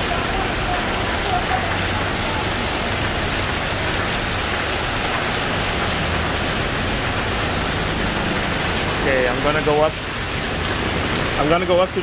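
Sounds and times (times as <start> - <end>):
heavy rain on a flooded street: 0.0 - 12.0.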